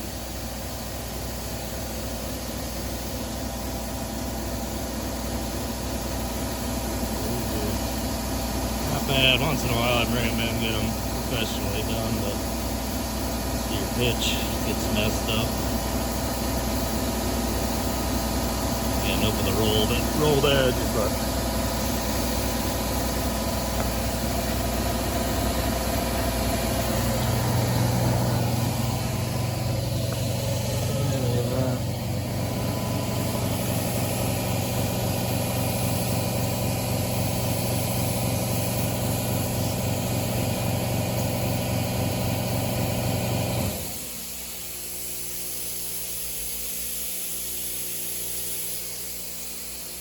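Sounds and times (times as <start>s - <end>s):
quieter steady hum: 0.0s - 40.4s
motor humming: 0.0s - 46.3s.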